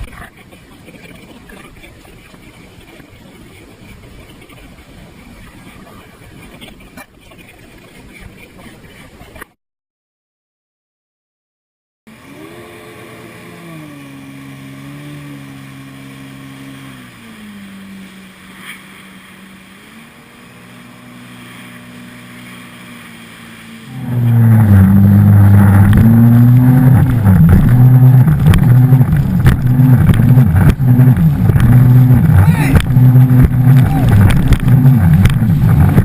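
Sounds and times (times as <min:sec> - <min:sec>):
jet ski engine: 0:00.0 - 0:09.4, 0:12.1 - 0:36.0
wind: 0:00.0 - 0:09.6, 0:12.1 - 0:36.0.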